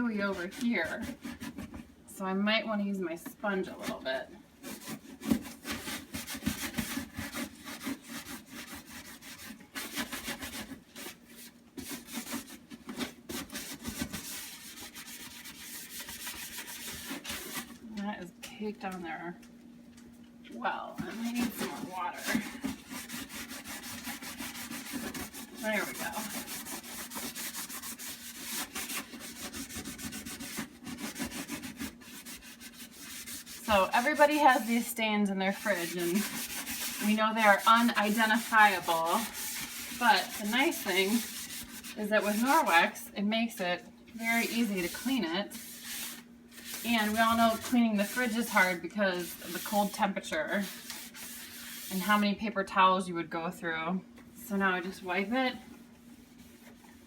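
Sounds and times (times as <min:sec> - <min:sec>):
sponge scrubbing: 0:00.0 - 0:01.8, 0:03.6 - 0:17.8, 0:21.0 - 0:43.1, 0:44.2 - 0:52.3, 0:54.9 - 0:57.0.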